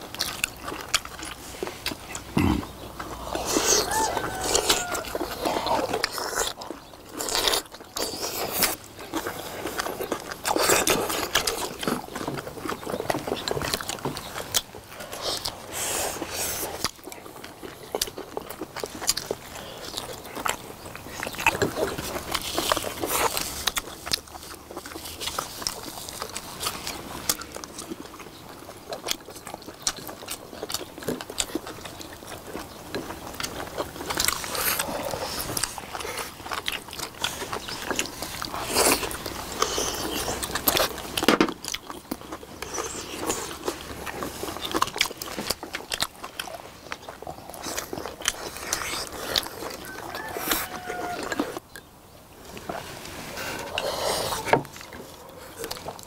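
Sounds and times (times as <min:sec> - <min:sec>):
people chewing: 0:00.0 - 0:56.0.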